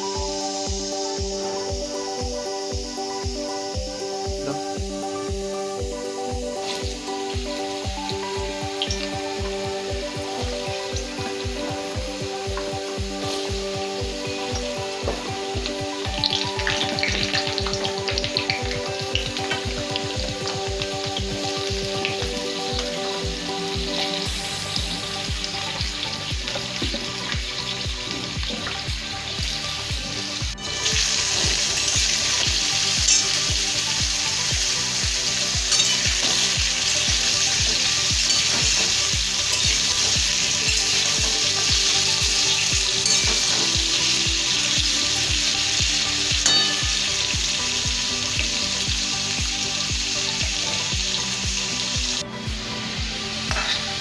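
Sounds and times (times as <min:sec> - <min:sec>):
potatoes sizzling in oil: 0:00.0 - 0:54.0.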